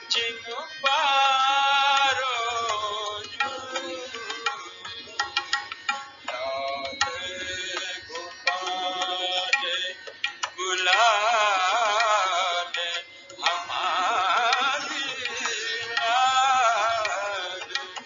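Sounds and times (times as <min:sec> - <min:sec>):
man singing ornamented notes: 0:00.0 - 0:18.0
tabla strokes: 0:00.8 - 0:18.0.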